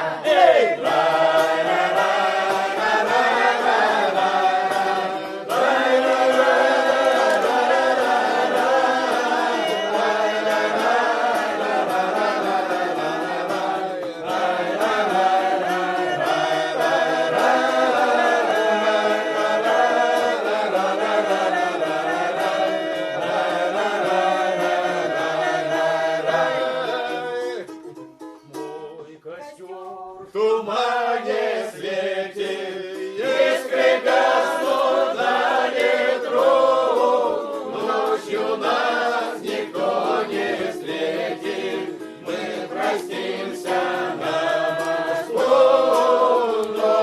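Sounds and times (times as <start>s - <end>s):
group of voices chanting: 0.0s - 27.1s, 30.5s - 47.0s.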